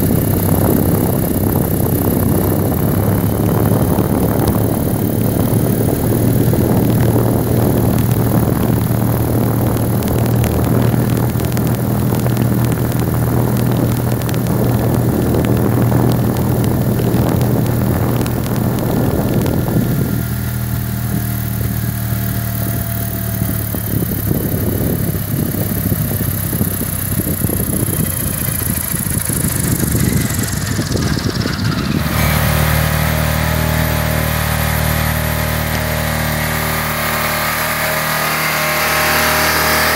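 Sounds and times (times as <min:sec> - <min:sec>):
electric motor hum: 0:00.0 - 0:39.9
high whine falling in pitch: 0:00.0 - 0:39.9
whirring air noise: 0:00.0 - 0:39.9.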